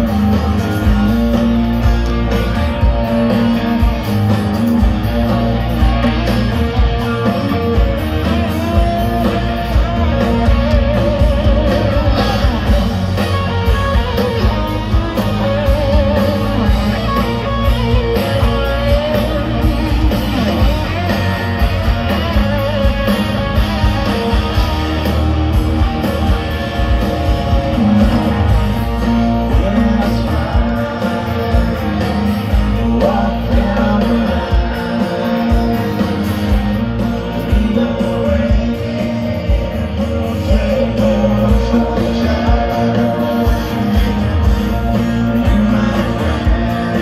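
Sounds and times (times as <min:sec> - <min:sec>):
live rock band through speakers: 0:00.0 - 0:47.0.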